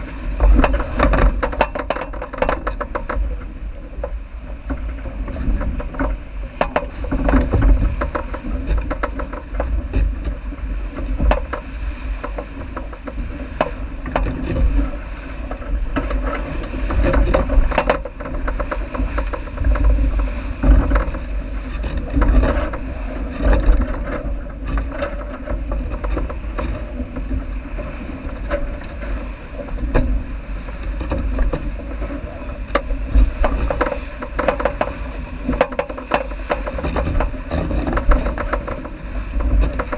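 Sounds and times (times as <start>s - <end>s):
water rushing along hull: 0.0s - 39.9s
wind on the microphone: 0.0s - 39.9s.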